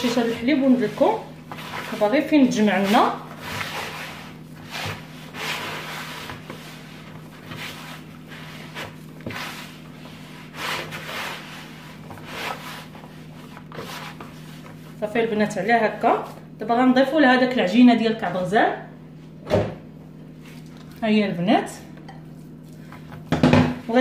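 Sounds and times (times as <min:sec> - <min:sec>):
hands kneading dough in basin: 0:00.0 - 0:16.7, 0:20.3 - 0:24.0.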